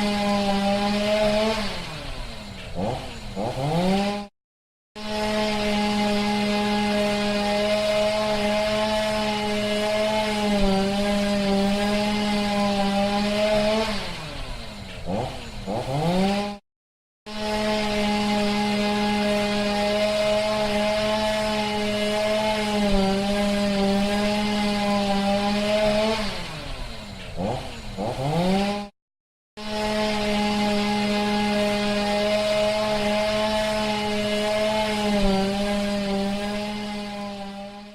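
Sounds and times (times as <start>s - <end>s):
chainsaw running: 0.0s - 4.3s, 5.0s - 16.6s, 17.3s - 28.9s, 29.6s - 37.9s.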